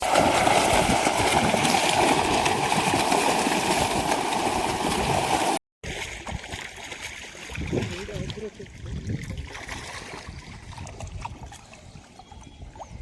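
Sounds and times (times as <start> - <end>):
quieter water sound: 0.0 - 13.0
rushing gurgling water: 0.0 - 13.0.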